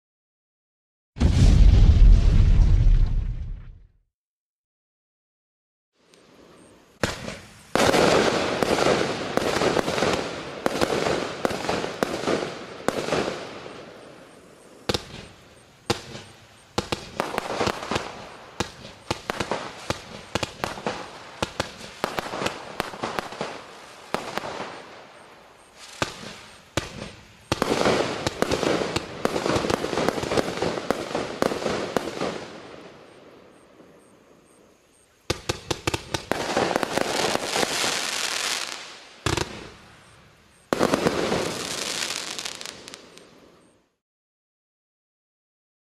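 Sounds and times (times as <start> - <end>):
crackling firework stars: 1.2 - 3.7, 6.0 - 44.0
fireworks launches and bursts: 1.2 - 3.9, 6.1 - 33.6, 34.9 - 43.7.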